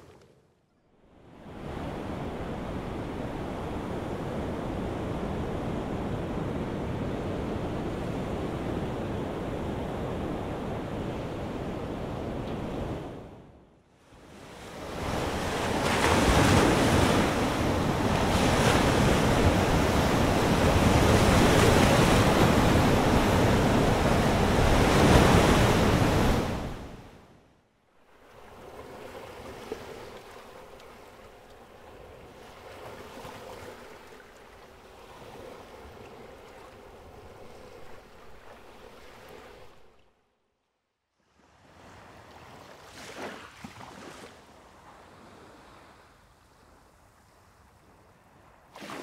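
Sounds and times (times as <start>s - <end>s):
ocean waves and surf: 0.0s - 40.2s, 41.2s - 49.0s.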